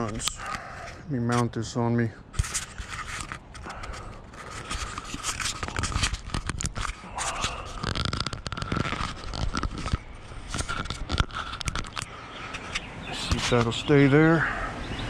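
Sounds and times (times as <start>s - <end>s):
camera handling rubbing and clicking: 0.0s - 1.6s, 2.3s - 13.7s.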